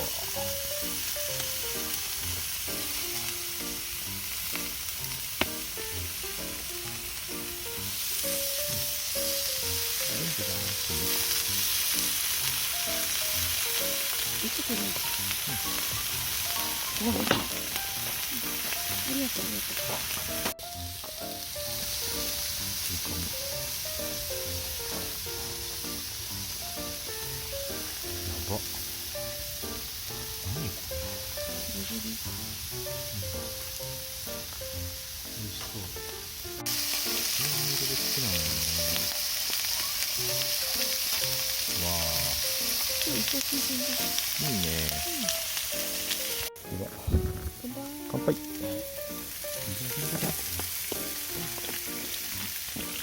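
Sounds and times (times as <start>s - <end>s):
background music: 0.0s - 53.0s
meat sizzling: 0.0s - 53.0s.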